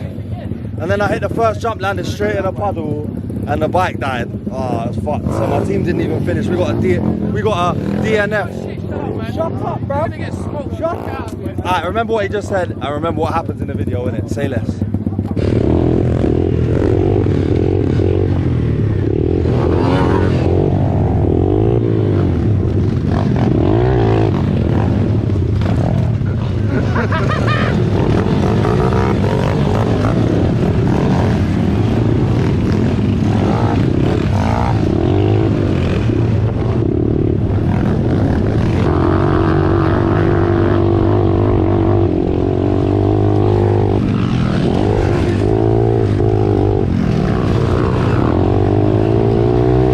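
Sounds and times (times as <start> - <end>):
pit bike engine revving: 3.1 - 12.0, 14.4 - 49.9.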